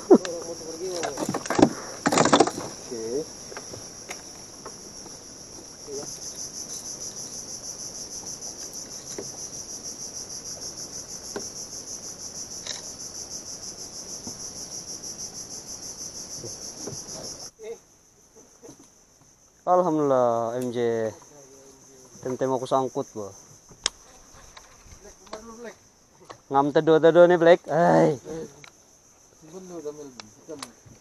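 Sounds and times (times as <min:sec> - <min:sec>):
shrill insect chorus: 0:00.0 - 0:31.0.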